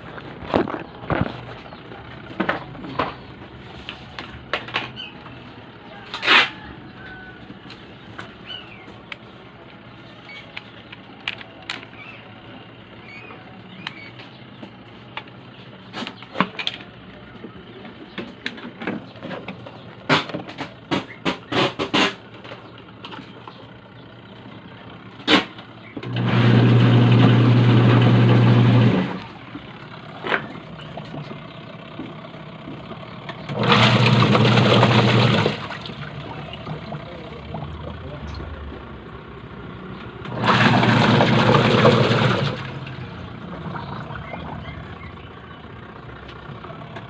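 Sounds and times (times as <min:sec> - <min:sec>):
washing machine motor churning: 0:00.0 - 0:47.0.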